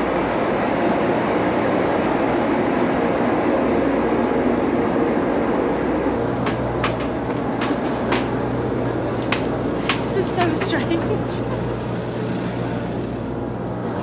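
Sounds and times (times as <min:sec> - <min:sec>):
engine rumble: 0:00.0 - 0:14.0.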